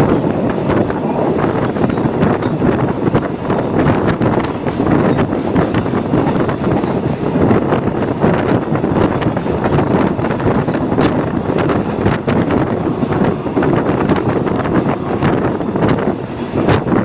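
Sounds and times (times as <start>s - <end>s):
train carriage rumbling and rattling: 0.0s - 17.0s
wind buffeting microphone: 0.0s - 17.0s.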